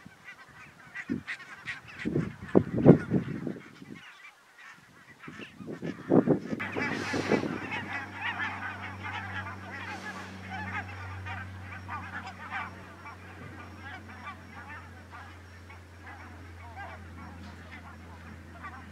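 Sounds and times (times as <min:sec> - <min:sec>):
flock of geese chattering: 0:00.0 - 0:18.9
geese honking: 0:00.0 - 0:18.9.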